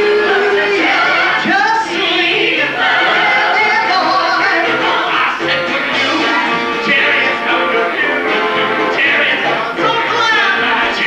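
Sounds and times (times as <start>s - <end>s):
group singing show tune: 0.0s - 11.0s
instrumental accompaniment: 0.0s - 11.0s.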